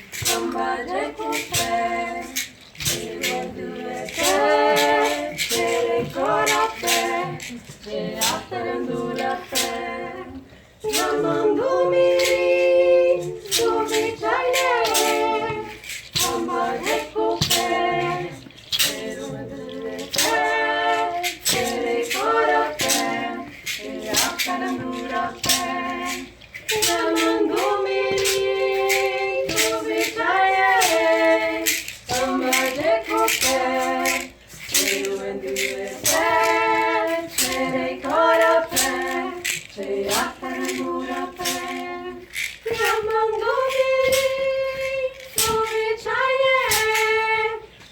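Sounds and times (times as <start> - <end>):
person singing unaccompanied: 0.0 - 47.9.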